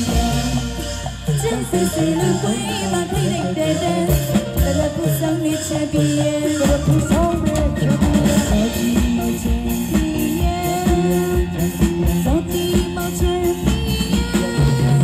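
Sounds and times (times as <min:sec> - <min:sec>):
drums beating: 0:00.0 - 0:15.0.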